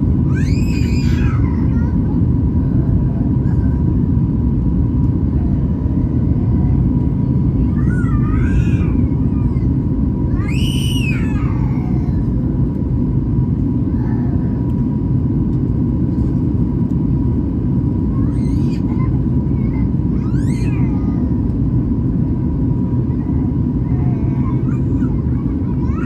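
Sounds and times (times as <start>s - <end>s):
aircraft cabin low rumble: 0.0s - 26.0s
faint high hum: 0.0s - 26.0s.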